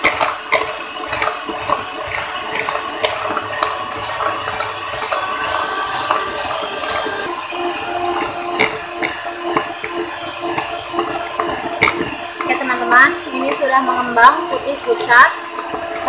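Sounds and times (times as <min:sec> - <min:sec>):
electric hand mixer running: 0:00.0 - 0:16.0.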